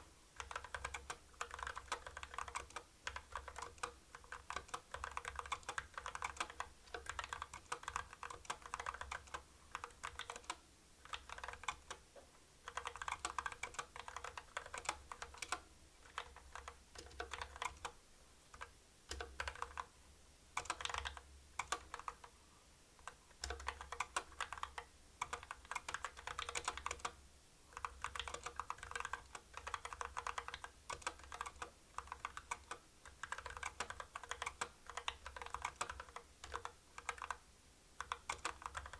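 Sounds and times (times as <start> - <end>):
mechanical keyboard typing: 0.4 - 12.0, 12.6 - 19.9, 20.6 - 22.3, 23.0 - 37.4, 38.0 - 38.9.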